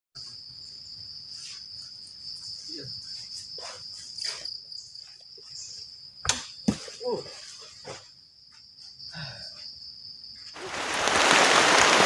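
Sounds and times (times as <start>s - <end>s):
insects trilling: 0.2s - 12.0s.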